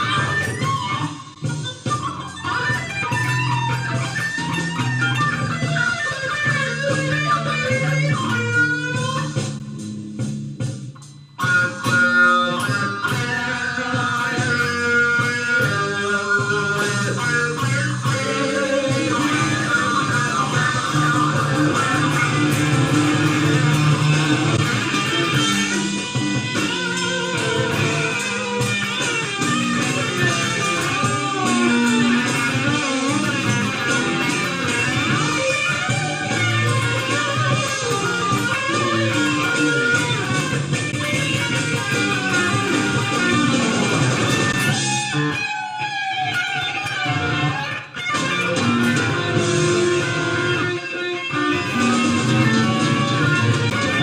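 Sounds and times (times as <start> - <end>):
bass guitar: 0.0 - 54.0
electric guitar lead: 0.0 - 54.0.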